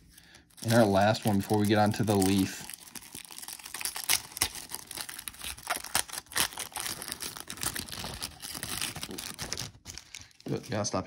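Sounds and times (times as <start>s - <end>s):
wrapper crinkling and tearing: 0.0s - 11.0s.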